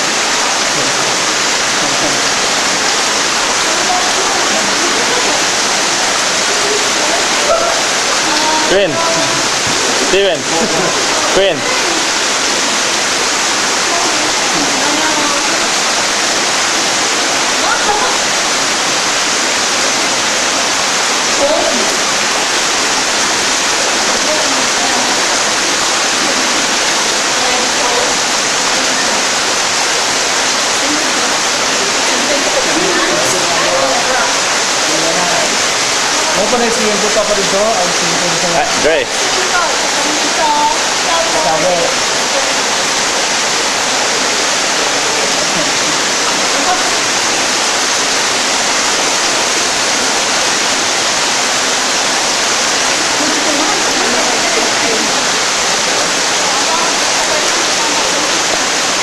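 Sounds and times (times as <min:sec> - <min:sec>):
water rushing: 0:00.0 - 0:59.0.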